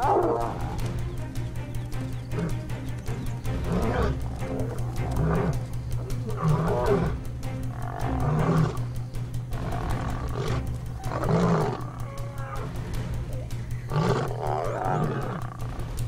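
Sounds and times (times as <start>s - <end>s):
lions growling and snarling: 0.0s - 16.0s
low music score: 0.0s - 16.0s.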